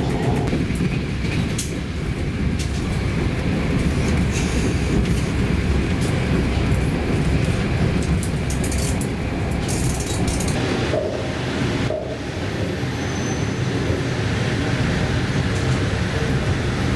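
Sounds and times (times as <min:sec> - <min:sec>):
train rumbling on track: 0:00.0 - 0:16.9.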